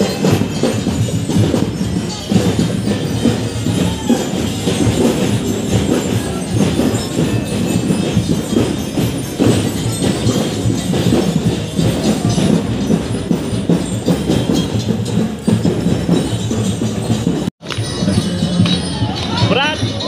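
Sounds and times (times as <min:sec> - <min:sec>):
parade drumming: 0:00.0 - 0:20.0.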